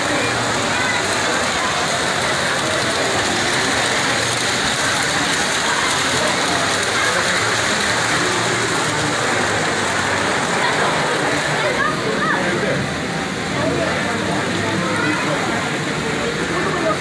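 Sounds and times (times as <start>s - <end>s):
crowd hubbub: 0.0s - 17.0s.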